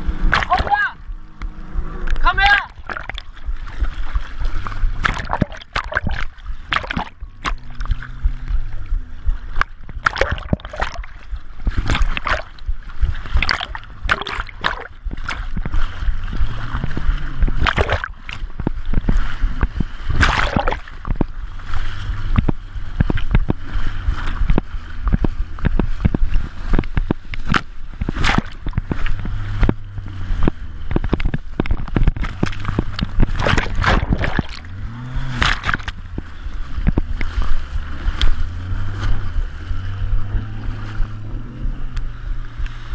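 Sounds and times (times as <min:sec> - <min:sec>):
low steady drone: 0:00.0 - 0:42.9
water splashing against boat: 0:00.0 - 0:42.9.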